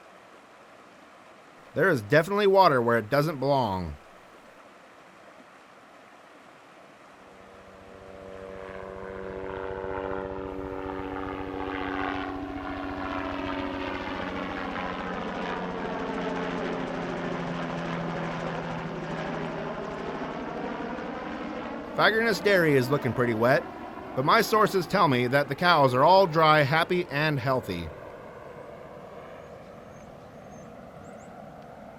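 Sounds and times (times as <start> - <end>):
aircraft engine droning: 1.8 - 4.0, 7.0 - 31.9.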